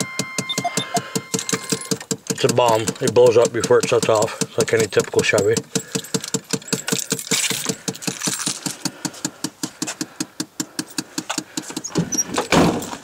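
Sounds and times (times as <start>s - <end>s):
engine idling with rapid clicking: 0.0s - 12.1s.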